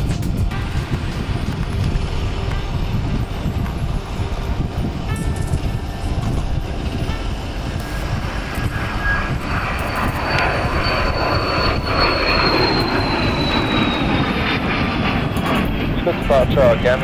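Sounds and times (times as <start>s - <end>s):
jet engine whine and rush: 0.0s - 17.0s.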